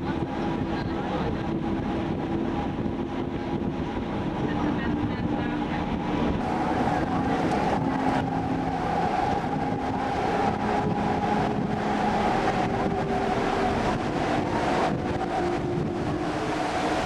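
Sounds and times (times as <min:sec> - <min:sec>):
boat engine droning: 0:00.0 - 0:17.0
water rushing along hull: 0:00.0 - 0:17.0
wind buffeting microphone: 0:00.0 - 0:17.0.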